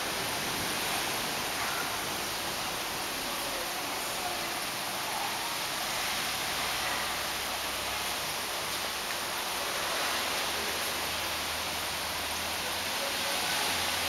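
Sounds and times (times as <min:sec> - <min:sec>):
aquarium water bubbling and hissing: 0:00.0 - 0:14.0.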